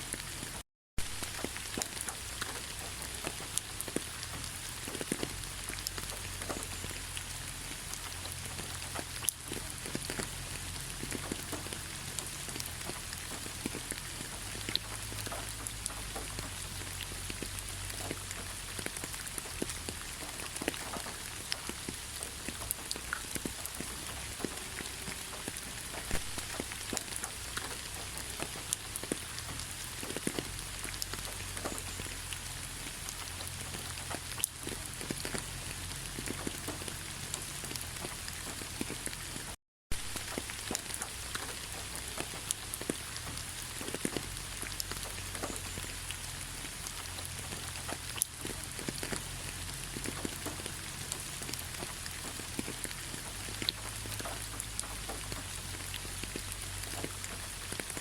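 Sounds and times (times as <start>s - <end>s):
raindrops tapping: 0.0s - 58.0s
steady rain falling: 0.0s - 58.0s.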